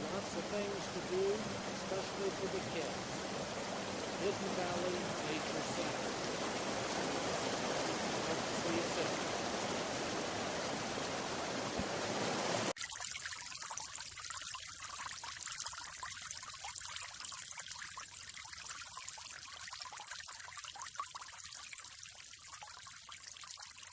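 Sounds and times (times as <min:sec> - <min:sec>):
trickle of running water: 0:00.0 - 0:23.9.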